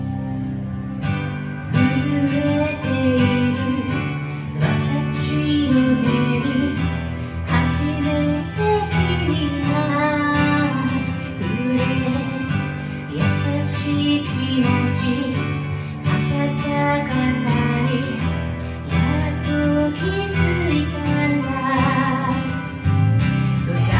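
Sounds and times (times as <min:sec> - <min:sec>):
acoustic guitar backing track: 0:00.0 - 0:23.9
woman singing pop ballad: 0:01.6 - 0:23.9.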